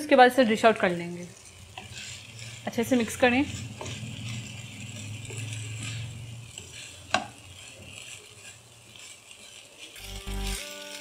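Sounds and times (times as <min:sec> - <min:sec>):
light sizzle: 0:00.0 - 0:11.0
spatula stirring in a wok: 0:00.0 - 0:11.0.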